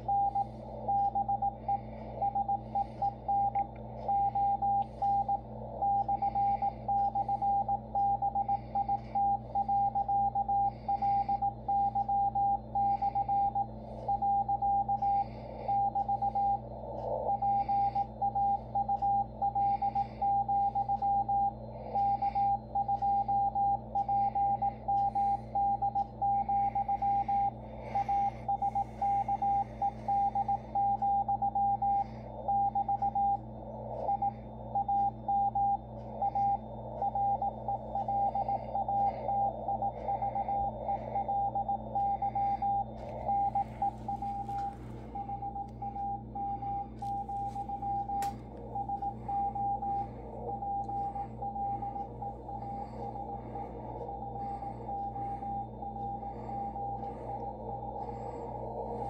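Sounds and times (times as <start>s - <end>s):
low hum and band noise: 0.0s - 59.0s
morse code tone: 0.0s - 59.0s.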